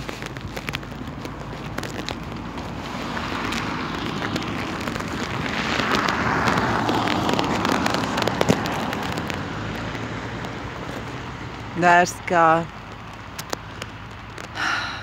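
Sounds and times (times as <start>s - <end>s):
car tyres hissing on wet road: 0.0s - 12.1s, 12.7s - 15.0s.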